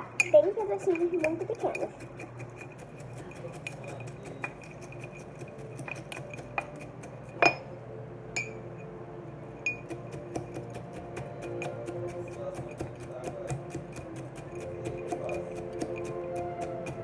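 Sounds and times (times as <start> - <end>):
utensil clinking against a dish: 0.0 - 7.7, 9.6 - 17.0.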